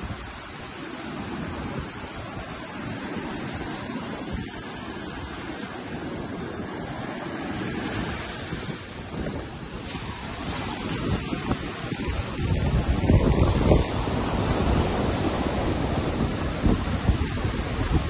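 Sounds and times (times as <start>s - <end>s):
ocean surf washing on beach: 0.0s - 18.0s
wind buffeting microphone: 0.0s - 18.0s.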